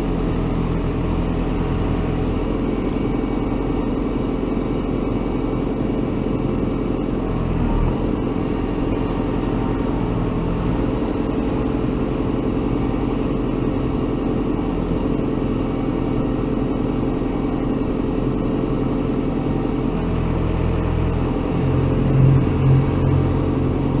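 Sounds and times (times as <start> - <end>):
heavy machinery diesel engine: 0.0 - 24.0.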